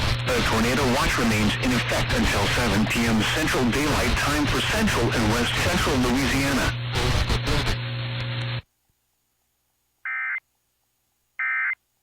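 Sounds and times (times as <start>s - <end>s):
broadcast hiss and hum: 0.0s - 12.0s.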